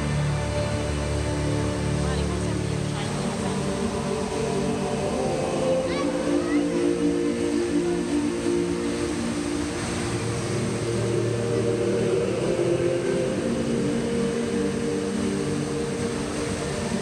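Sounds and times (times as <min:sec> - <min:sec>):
indoor waterfall rushing: 0:00.0 - 0:17.0
long held low music notes: 0:00.0 - 0:17.0.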